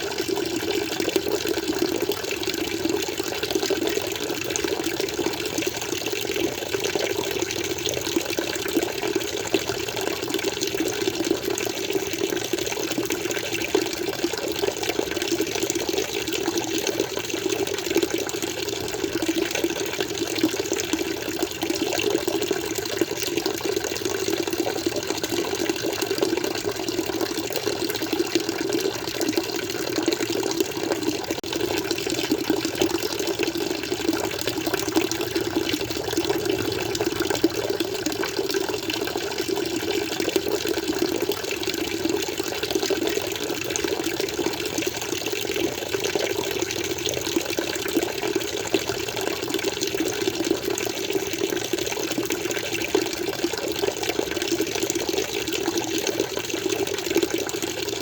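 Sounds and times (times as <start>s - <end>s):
water flowing and splashing: 0.0s - 58.0s.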